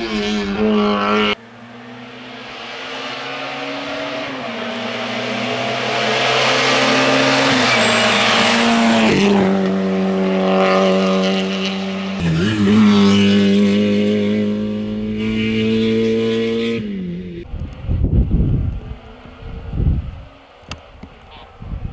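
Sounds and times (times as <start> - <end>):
rally car engine at high revs: 0.0 - 21.9.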